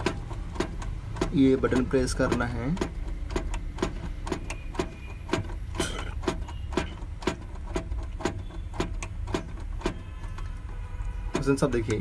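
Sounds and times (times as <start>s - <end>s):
meter push button clicking: 0.0s - 10.6s, 11.3s - 12.0s.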